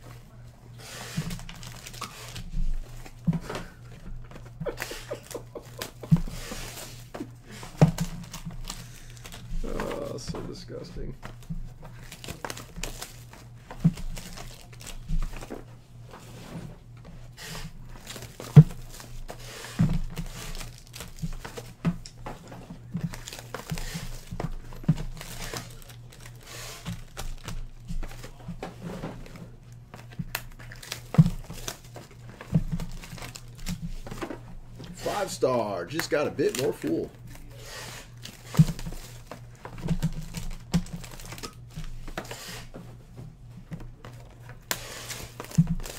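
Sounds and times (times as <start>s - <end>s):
foil wrappers crinkling: 0.8s - 15.7s, 17.3s - 28.5s, 29.2s - 42.8s, 43.6s - 45.9s.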